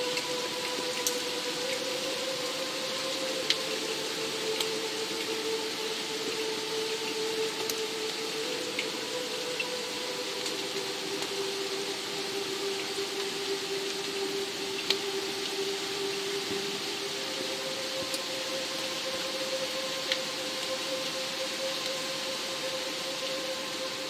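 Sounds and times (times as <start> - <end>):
held music drone: 0.0 - 24.0
steady rain: 0.0 - 24.0.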